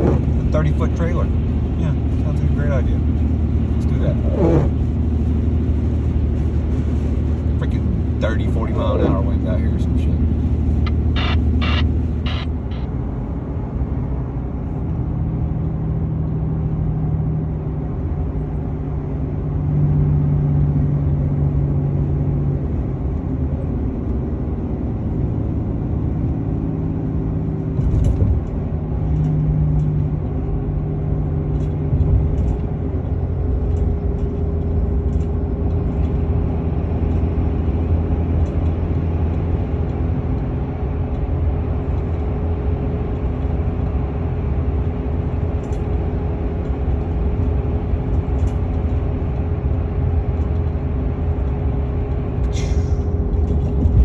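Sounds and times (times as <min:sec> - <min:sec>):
road noise rumble: 0:00.0 - 0:54.0
vehicle engine hum: 0:00.0 - 0:54.0.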